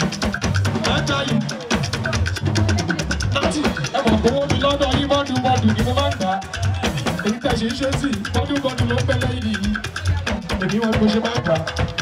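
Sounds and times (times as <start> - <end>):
party music with drums: 0.0 - 12.0.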